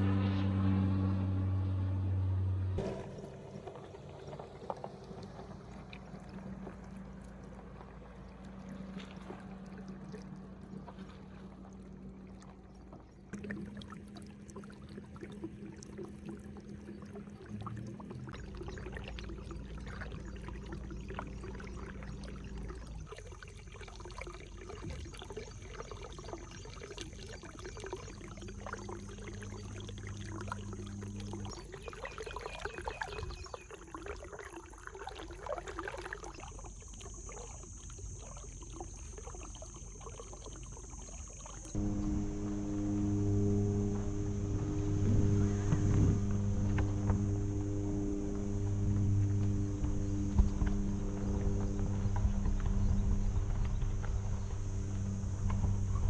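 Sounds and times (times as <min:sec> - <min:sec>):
low hum: 0:00.0 - 0:33.7, 0:36.2 - 0:56.0
water pouring and trickling: 0:02.8 - 0:56.0.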